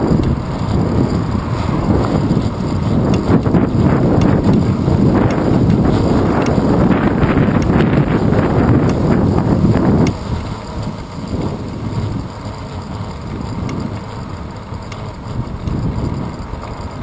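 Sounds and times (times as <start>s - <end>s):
bike clicks and knocks: 0.0s - 17.0s
wind buffeting microphone: 0.0s - 17.0s.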